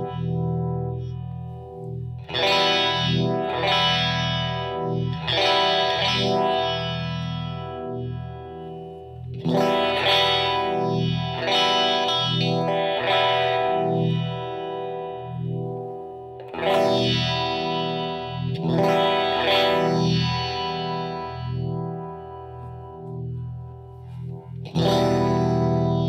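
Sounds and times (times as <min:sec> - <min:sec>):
clean electric guitar chords with vibe: 0:00.0 - 0:26.0.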